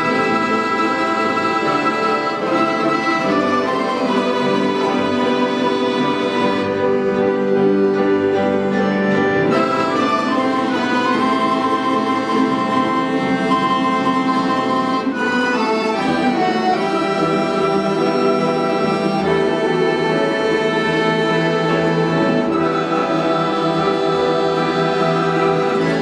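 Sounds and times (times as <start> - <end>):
folk instrument orchestra playing: 0.0 - 26.0.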